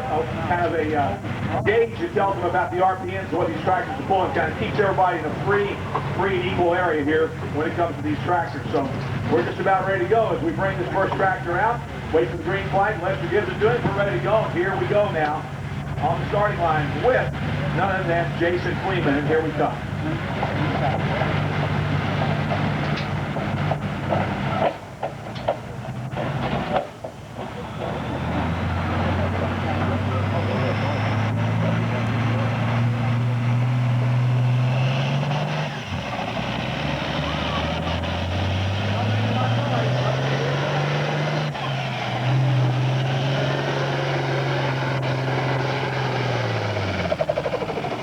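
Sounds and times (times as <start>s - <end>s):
diesel tractor engine under load: 0.0s - 48.0s.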